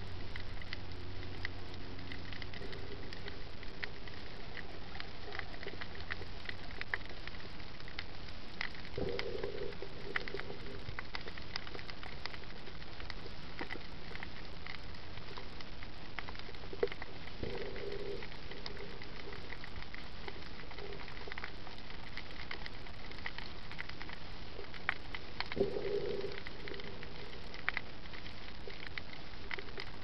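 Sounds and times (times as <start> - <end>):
crackling clicks: 0.0 - 30.0.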